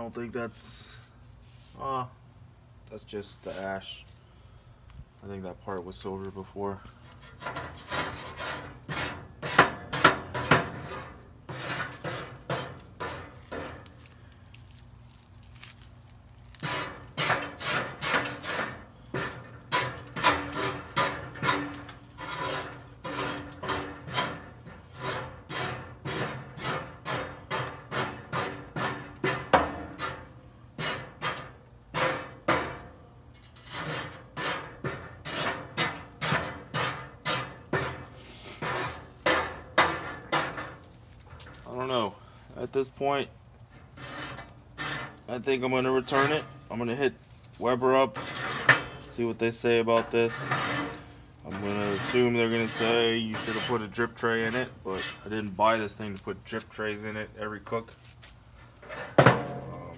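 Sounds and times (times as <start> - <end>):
scraping inside a metal grill: 7.0 - 14.2, 16.5 - 55.9, 58.5 - 59.9.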